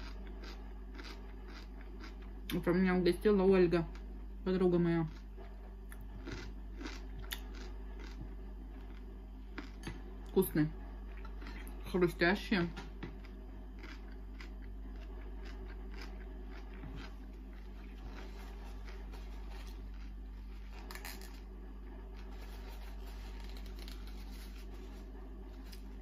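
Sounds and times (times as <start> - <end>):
chewing crunchy cucumber: 0.0 - 2.7, 4.8 - 10.4, 11.0 - 12.0, 12.8 - 26.0
steady low hum: 0.0 - 26.0.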